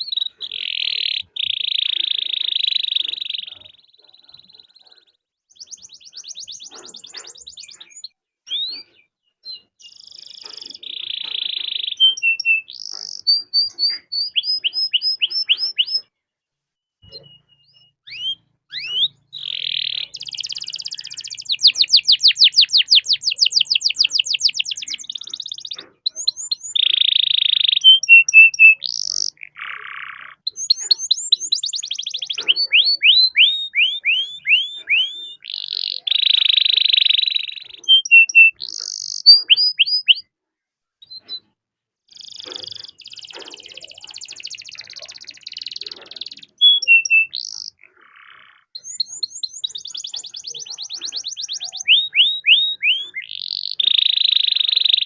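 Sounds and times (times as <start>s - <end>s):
canary singing trills: 0.0s - 16.2s, 17.0s - 40.3s, 41.0s - 55.0s.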